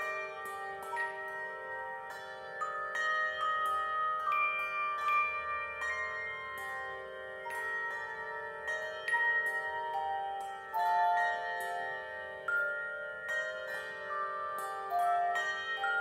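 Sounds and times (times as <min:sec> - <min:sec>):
handbells ringing: 0:00.0 - 0:16.0.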